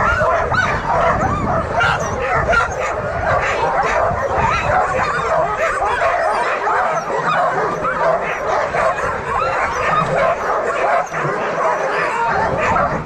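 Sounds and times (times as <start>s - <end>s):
sled dogs yipping and barking: 0.0s - 13.0s.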